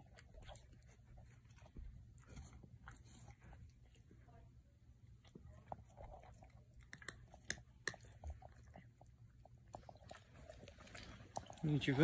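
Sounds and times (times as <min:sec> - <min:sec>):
cat chewing wet food: 0:00.0 - 0:04.4, 0:05.0 - 0:12.0.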